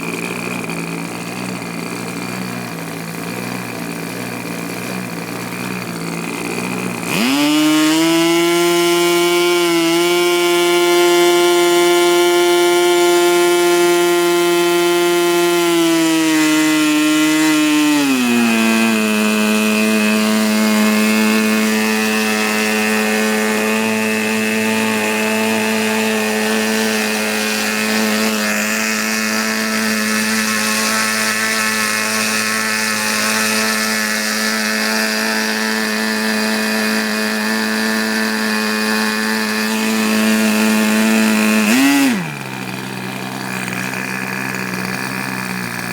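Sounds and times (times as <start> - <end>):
model engine running: 0.0 - 45.9.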